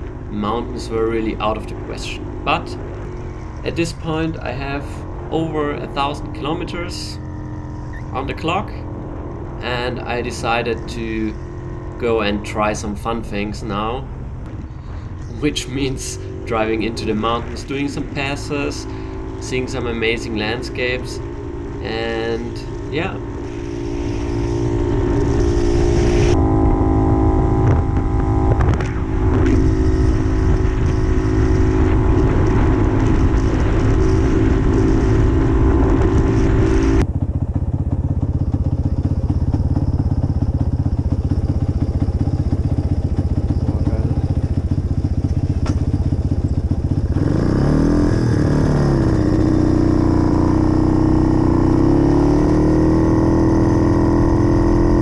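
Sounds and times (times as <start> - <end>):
motorcycle two-stroke engine running: 0.0 - 55.0.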